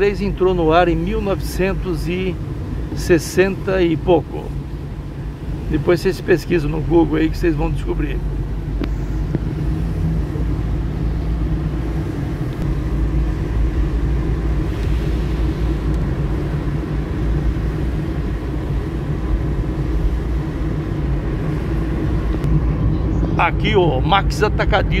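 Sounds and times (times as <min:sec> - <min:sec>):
car engine and tyre rumble: 0:00.0 - 0:25.0
tyres hissing on wet asphalt: 0:00.2 - 0:22.4.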